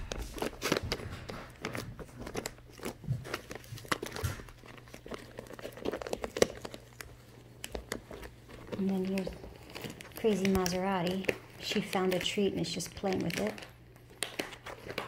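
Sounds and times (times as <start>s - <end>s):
treat bag rustling and crackling: 0.0s - 15.0s.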